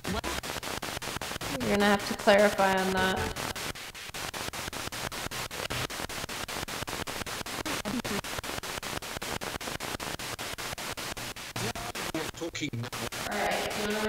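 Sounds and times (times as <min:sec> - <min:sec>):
pulsing radio static: 0:00.0 - 0:14.0.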